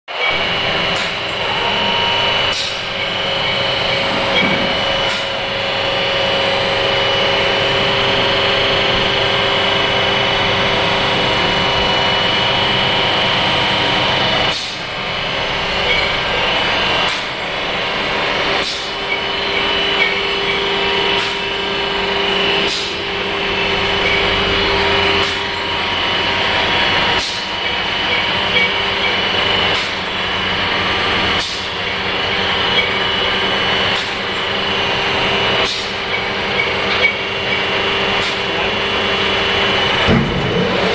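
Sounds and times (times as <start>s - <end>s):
high machine whine: 0.1s - 40.9s
lathe mechanical hum: 0.1s - 40.9s.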